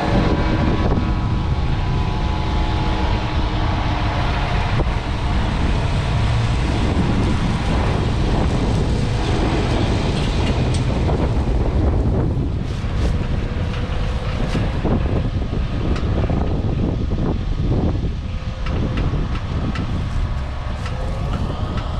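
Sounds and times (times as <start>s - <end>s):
combine harvester rumbling: 0.0s - 21.9s
wind buffeting microphone: 0.0s - 21.9s.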